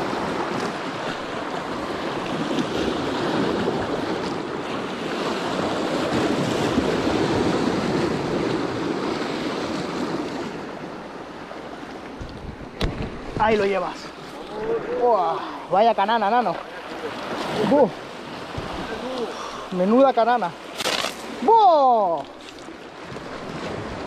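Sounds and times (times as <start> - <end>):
surf washing over rocks: 0.0 - 24.0.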